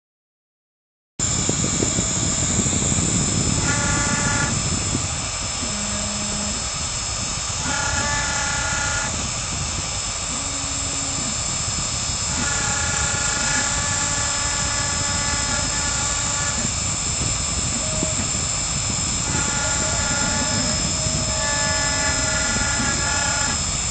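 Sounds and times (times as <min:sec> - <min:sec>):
router spindle high whine: 0:01.2 - 0:23.9
stepper motors whining: 0:01.2 - 0:23.9.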